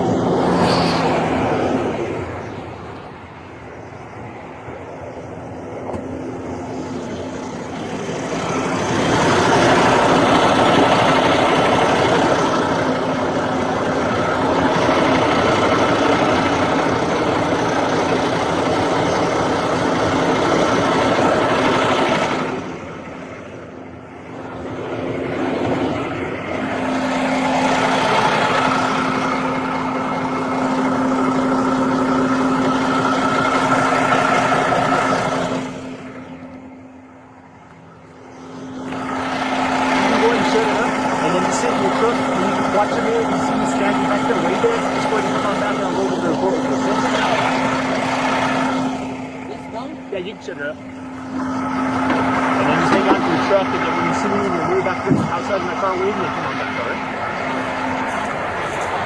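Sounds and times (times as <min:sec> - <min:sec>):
steady low hum: 0:00.0 - 0:59.0
traffic engines and road noise: 0:00.0 - 0:59.0.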